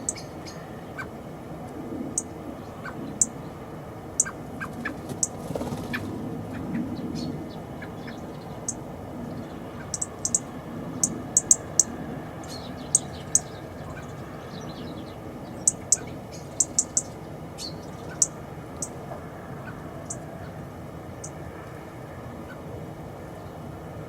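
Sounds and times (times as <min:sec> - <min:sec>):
songbirds giving sharp call notes: 0:00.0 - 0:23.9
low background rumble: 0:00.0 - 0:24.0.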